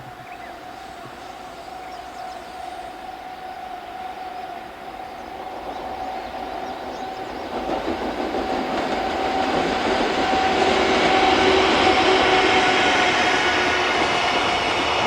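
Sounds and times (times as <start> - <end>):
freight train on rails: 0.0 - 15.0
locomotive high whine: 0.0 - 15.0.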